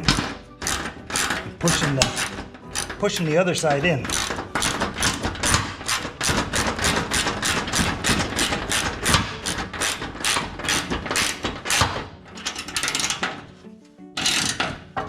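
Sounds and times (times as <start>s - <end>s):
socket ratchet clicking: 0.0s - 13.4s, 14.2s - 14.8s.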